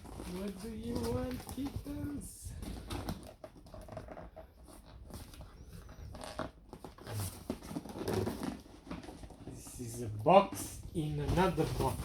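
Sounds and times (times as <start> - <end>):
cardboard box crackling: 0.0 - 12.0.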